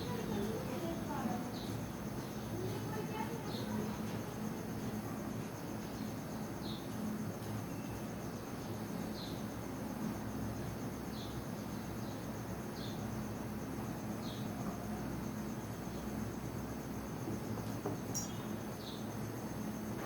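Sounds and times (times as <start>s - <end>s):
crickets trilling: 0.0s - 20.0s
low background hum: 0.0s - 20.0s.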